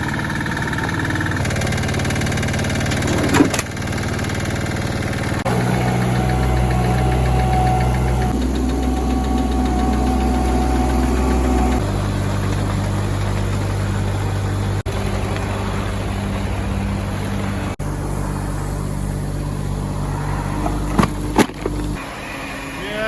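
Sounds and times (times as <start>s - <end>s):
digger engine running: 0.0s - 23.0s.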